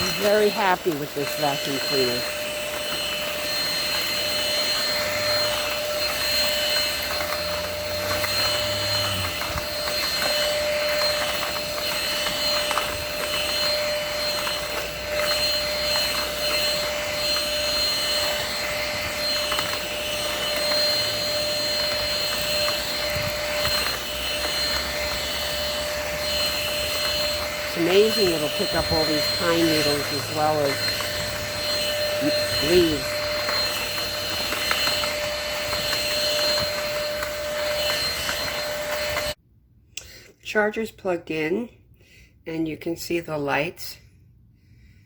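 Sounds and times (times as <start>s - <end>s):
stick vacuum whining: 0.0s - 39.4s.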